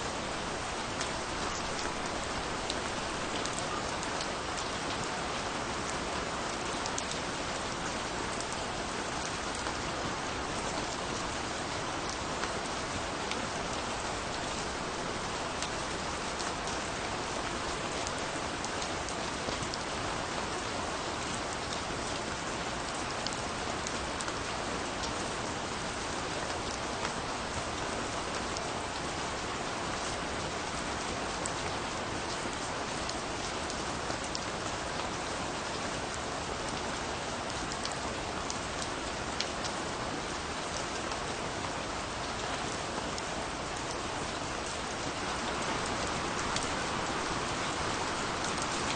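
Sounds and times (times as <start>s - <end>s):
rain on hard surface: 0.0s - 48.9s.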